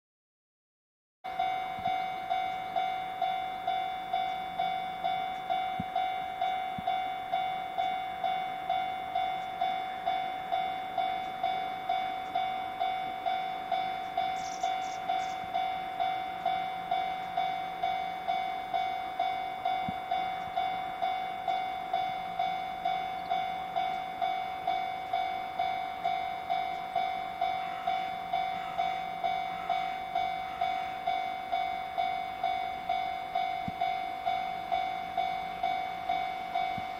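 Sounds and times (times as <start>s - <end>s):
level crossing bell clanging: 1.3s - 36.9s.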